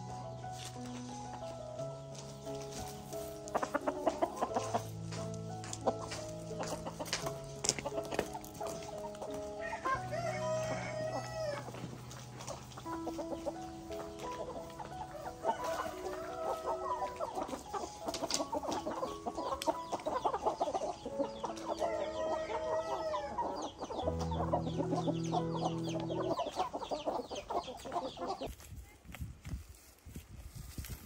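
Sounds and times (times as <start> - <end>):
chickens clucking: 0.0 - 28.7
outdoor noise: 0.0 - 31.0.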